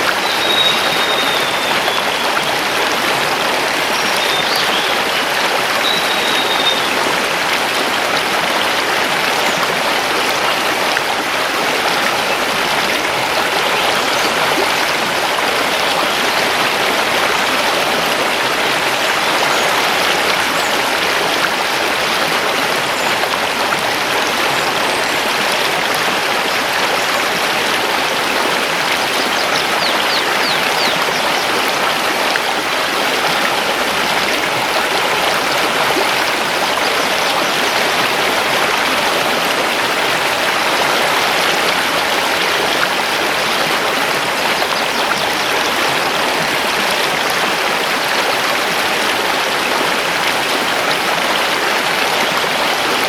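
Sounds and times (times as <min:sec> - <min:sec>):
river rushing over stones: 0:00.0 - 0:53.0.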